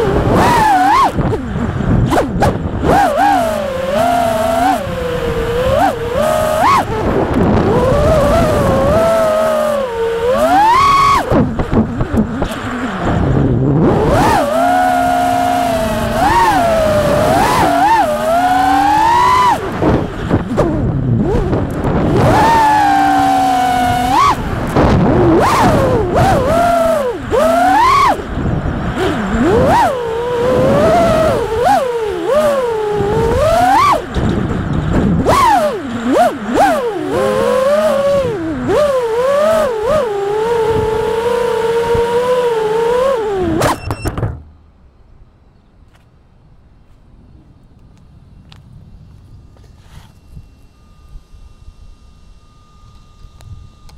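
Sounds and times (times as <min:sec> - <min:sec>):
drone motors whining: 0:00.0 - 0:44.6, 0:45.4 - 0:53.9.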